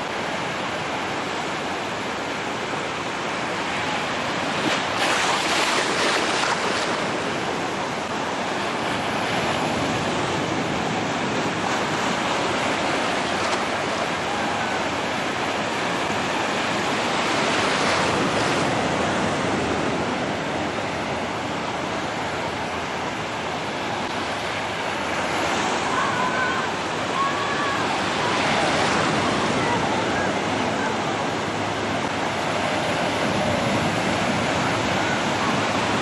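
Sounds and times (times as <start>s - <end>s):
ocean surf breaking on beach: 0.0s - 36.0s.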